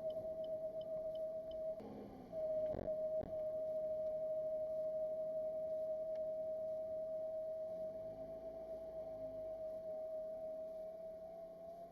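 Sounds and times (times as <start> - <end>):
drive shaft whistle-like whine: 0.0 - 11.7.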